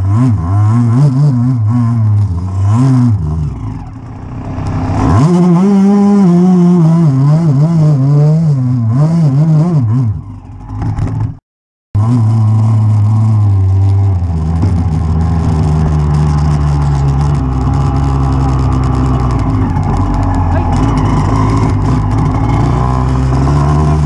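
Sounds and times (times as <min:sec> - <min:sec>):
dirt bike engine revving: 0:00.0 - 0:11.4, 0:12.0 - 0:24.0.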